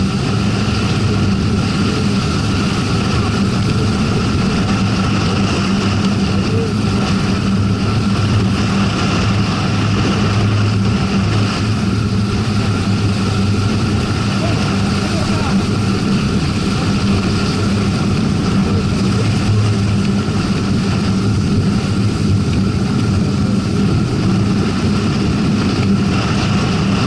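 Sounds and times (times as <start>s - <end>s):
tyre noise on road: 0.0s - 27.0s
vehicle engine hum: 0.0s - 27.0s.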